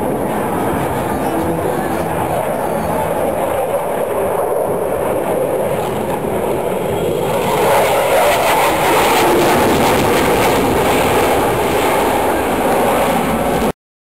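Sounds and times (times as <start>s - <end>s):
jet flying past: 0.0s - 13.7s.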